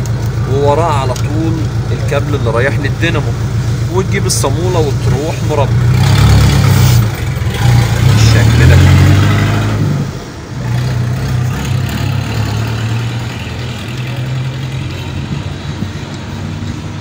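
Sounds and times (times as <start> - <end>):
vehicle engine idling: 0.0 - 9.1, 9.7 - 17.0.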